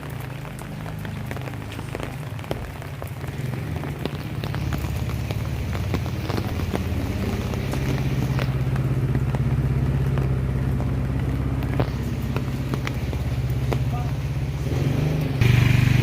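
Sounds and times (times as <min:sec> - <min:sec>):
rain ticking: 0:00.0 - 0:16.0
vehicle engine rumbling: 0:00.0 - 0:16.0.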